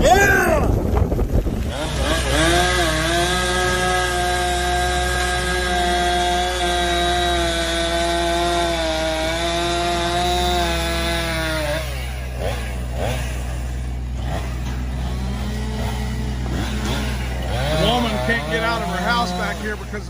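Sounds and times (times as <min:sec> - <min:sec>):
chainsaw cutting wood: 0:00.1 - 0:20.0.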